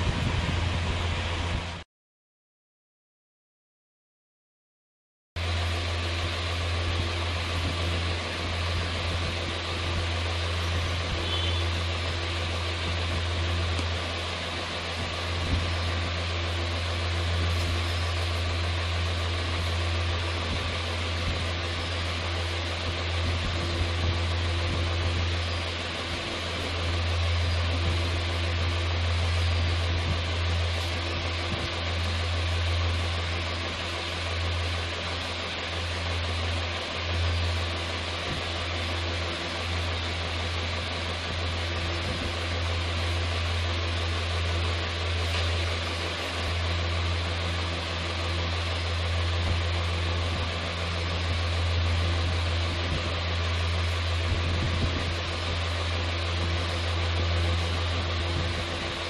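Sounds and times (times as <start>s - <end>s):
low hum: 0.0s - 1.8s, 5.4s - 59.0s.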